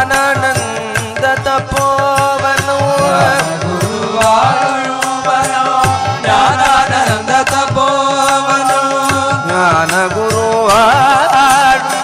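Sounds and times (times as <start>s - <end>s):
hand drum beat: 0.0s - 11.7s.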